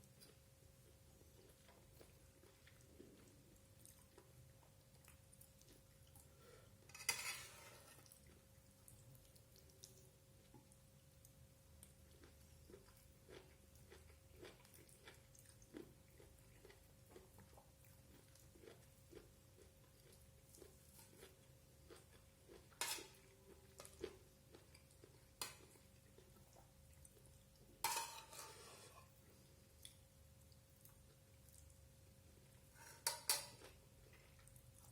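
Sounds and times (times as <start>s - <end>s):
soft chewing: 0.0s - 34.9s.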